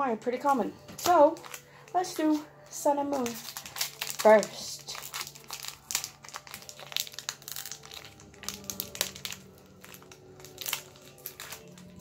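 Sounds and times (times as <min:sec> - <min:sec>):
foil wrapper crinkling: 0:00.8 - 0:12.0.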